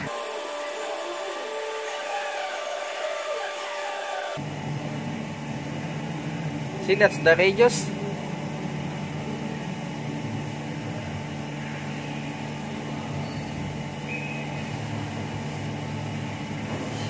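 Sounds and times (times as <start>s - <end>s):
milling machine humming idle: 0.0s - 17.0s.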